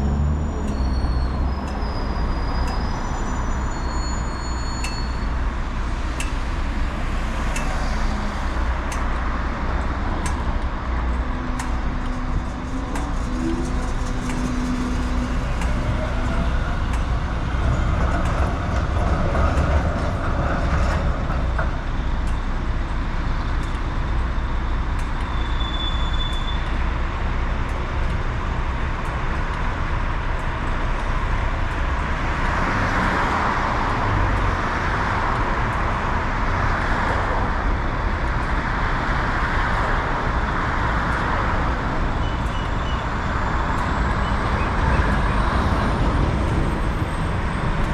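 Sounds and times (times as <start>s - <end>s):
road noise: 0.0s - 47.9s.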